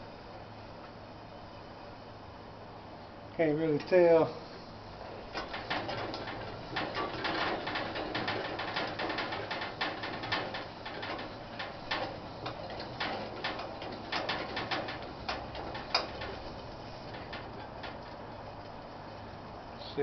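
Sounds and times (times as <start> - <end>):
camp stove burner hissing: 3.0 - 20.0.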